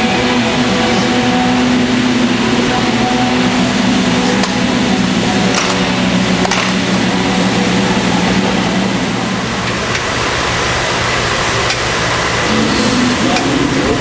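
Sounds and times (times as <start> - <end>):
ventilation hum and hiss: 0.0 - 14.0.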